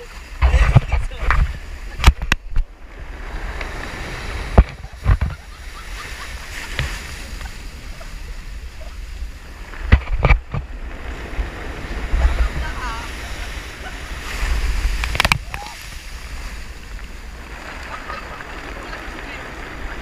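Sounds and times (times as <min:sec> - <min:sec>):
surf breaking on rocky shore: 0:00.0 - 0:20.0
wind rumbling on microphone: 0:00.0 - 0:20.0.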